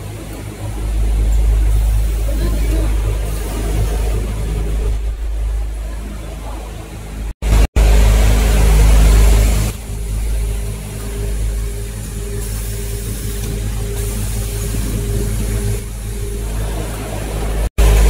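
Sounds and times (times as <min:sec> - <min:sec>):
machine line low drone: 0:00.0 - 0:18.0
machine tone: 0:00.0 - 0:18.0.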